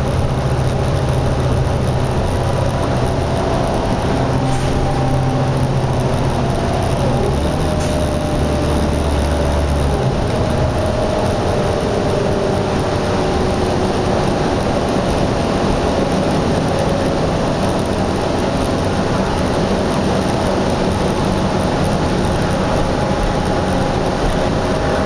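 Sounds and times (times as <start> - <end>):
highway traffic din: 0.0 - 25.0
low engine hum: 0.0 - 25.0.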